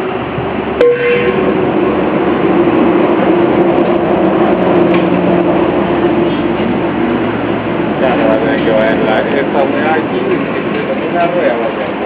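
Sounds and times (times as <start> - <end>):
mechanical rumble with droning hum: 0.0 - 12.0.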